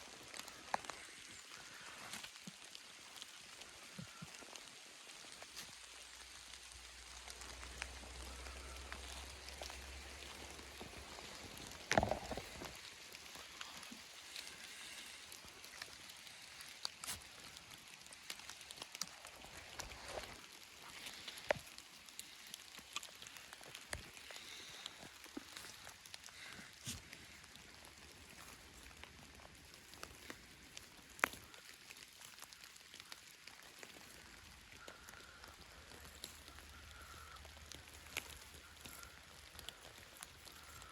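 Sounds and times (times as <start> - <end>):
faint rain hiss: 0.0 - 40.9
raindrops tapping: 0.1 - 40.9.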